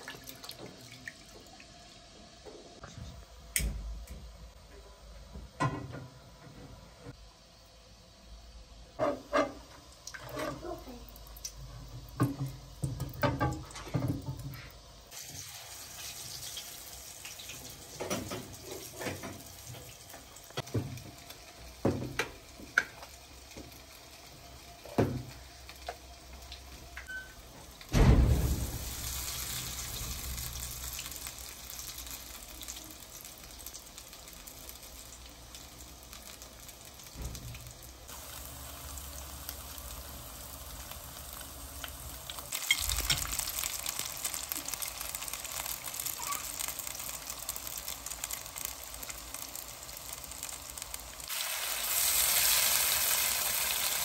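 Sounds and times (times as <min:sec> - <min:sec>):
potato patties sizzling in oil: 0:07.1 - 0:54.0.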